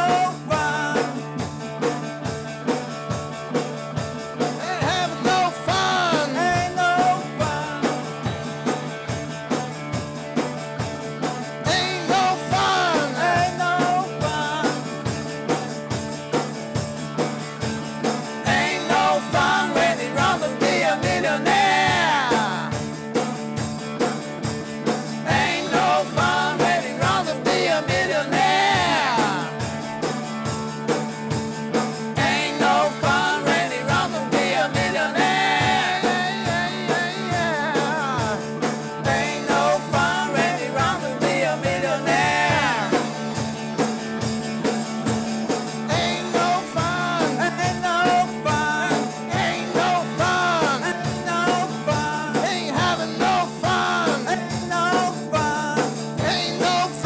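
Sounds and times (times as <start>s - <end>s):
drum kit steady beat: 0.0s - 57.0s
rock band playing: 0.0s - 57.0s.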